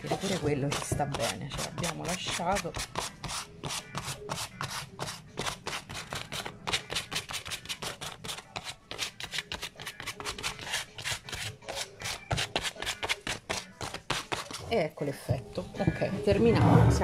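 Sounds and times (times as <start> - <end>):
sandpaper scraping strokes: 0.0 - 14.7.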